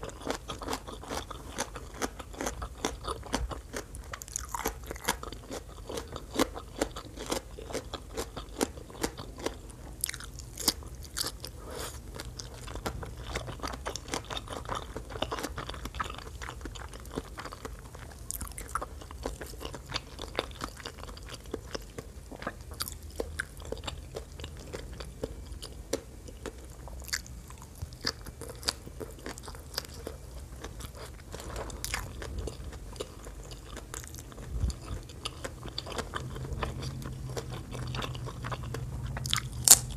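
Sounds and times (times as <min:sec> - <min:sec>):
chewing with crunches: 0:00.0 - 0:39.9.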